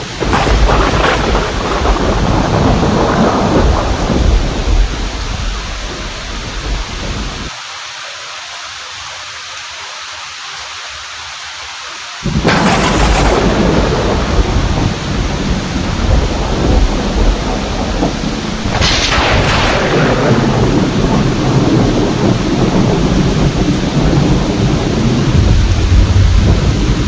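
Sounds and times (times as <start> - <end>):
loud thunderclap: 0.0 - 7.5, 12.2 - 27.0
thunder rumbling: 0.0 - 7.5, 12.2 - 27.0
heavy rain: 0.0 - 27.0.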